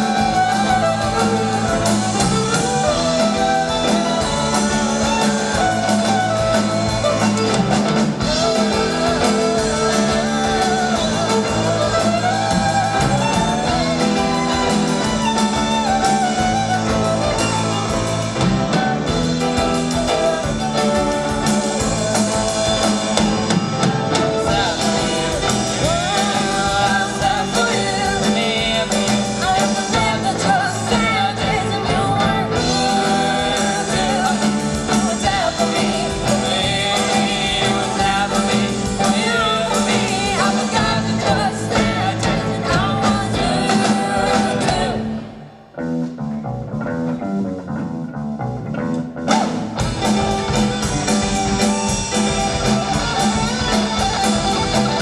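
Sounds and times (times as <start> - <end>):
drum kit: 0.0 - 46.5, 48.8 - 55.0
electric guitar: 0.0 - 55.0.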